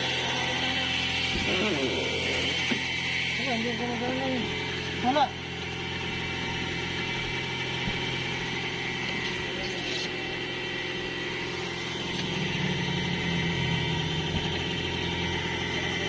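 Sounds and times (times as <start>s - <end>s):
car engine running: 0.0s - 16.0s
low hum: 0.0s - 16.0s.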